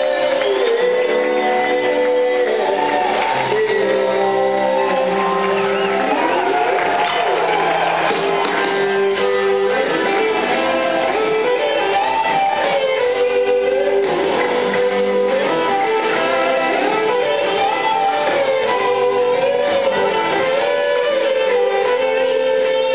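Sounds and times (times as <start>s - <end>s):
electric guitar lead notes: 0.0s - 22.9s
live rock band: 0.0s - 22.9s.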